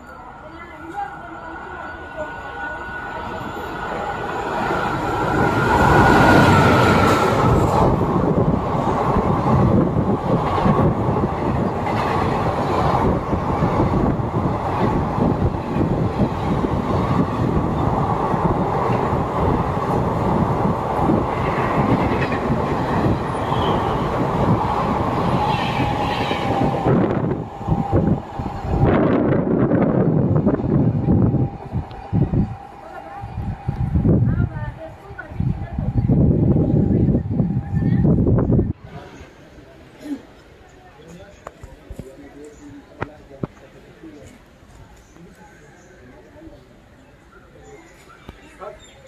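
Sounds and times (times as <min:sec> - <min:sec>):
train passing at speed: 0:00.0 - 0:48.8.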